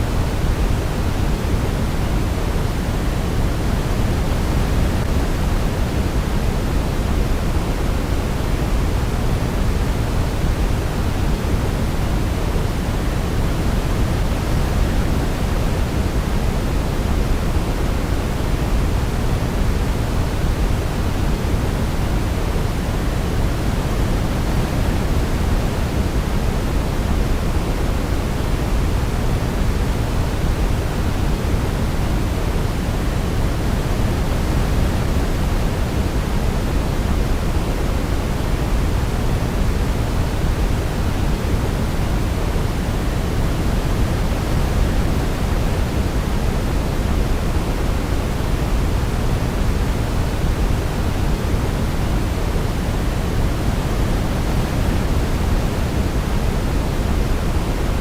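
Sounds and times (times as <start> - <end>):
steady low white noise: 0.0 - 58.0.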